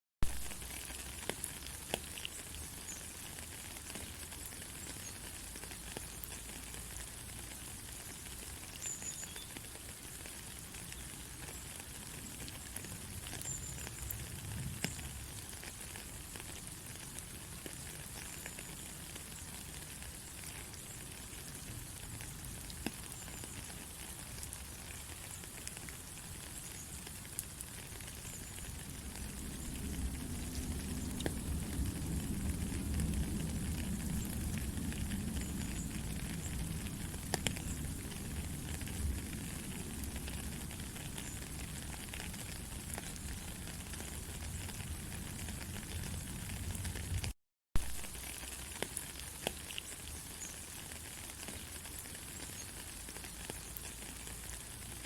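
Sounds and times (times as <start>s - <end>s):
steady rain: 0.2s - 55.0s.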